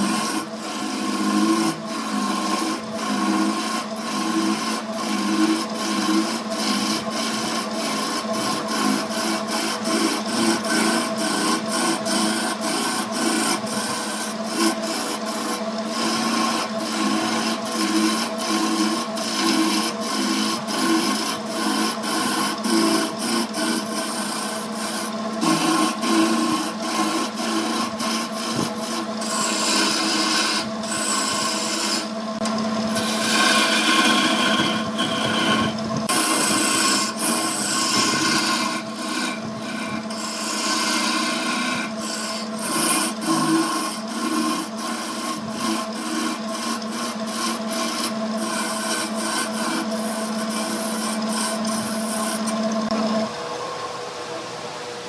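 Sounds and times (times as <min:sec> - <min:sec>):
tool scraping spinning wood: 0:00.0 - 0:53.6
lathe motor hum: 0:00.0 - 0:55.0.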